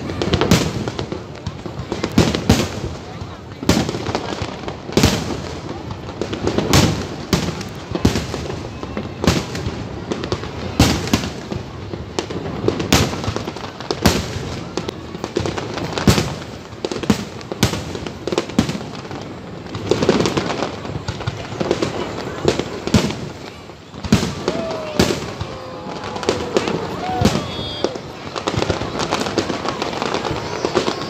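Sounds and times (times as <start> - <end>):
firework bangs: 0.0 - 31.0
firework crackling: 0.0 - 31.0.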